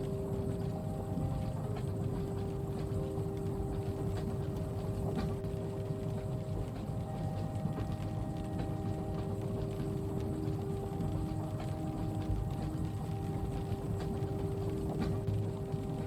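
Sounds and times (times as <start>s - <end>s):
constant tonal hum: 0.0s - 16.0s
light ticks of rain on window: 0.0s - 16.0s
train carriage rumble: 0.0s - 16.0s.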